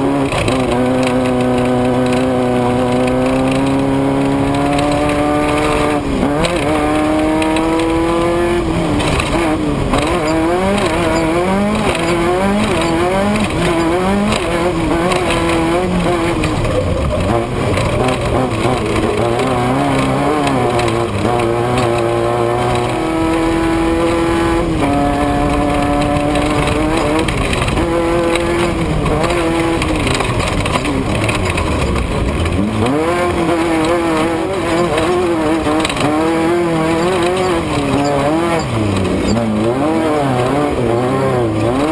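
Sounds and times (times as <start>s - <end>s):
race vehicle engine revving: 0.0s - 41.9s
second lower engine: 0.0s - 41.9s.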